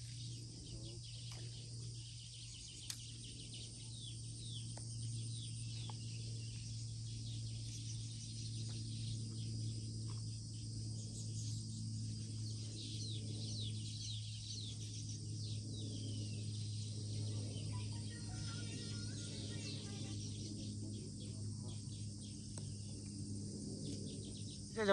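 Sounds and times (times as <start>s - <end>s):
birds chirping: 0.0s - 24.9s
high insect drone: 0.0s - 24.9s
low hum: 0.0s - 24.9s.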